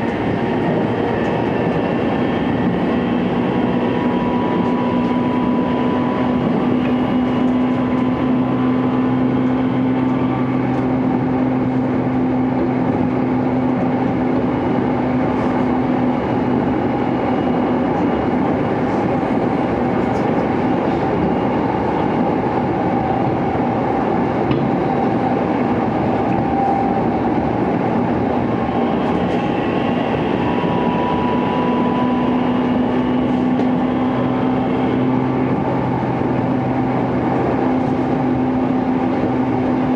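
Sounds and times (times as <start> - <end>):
traction motor hum: 0.0 - 39.9
train running noise: 0.0 - 39.9.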